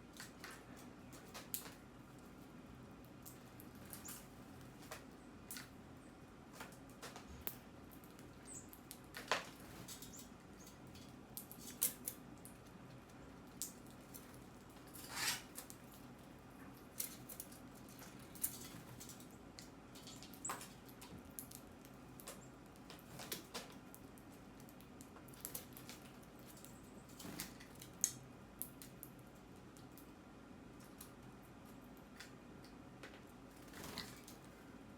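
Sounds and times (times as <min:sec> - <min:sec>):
birds pecking at seed: 0:00.0 - 0:34.9.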